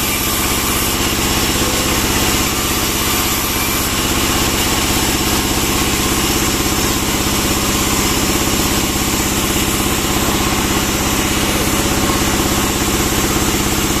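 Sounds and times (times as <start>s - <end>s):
band saw engine idling: 0.0s - 14.0s.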